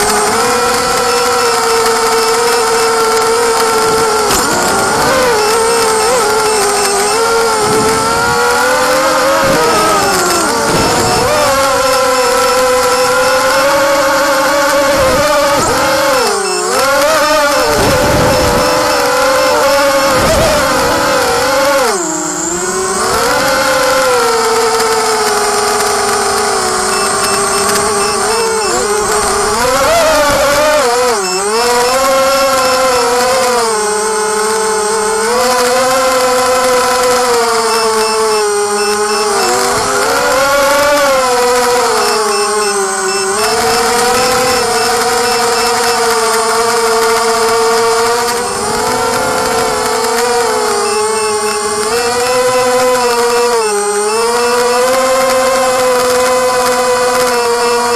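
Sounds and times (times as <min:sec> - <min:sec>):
drone motors buzzing whine: 0:00.0 - 0:57.9.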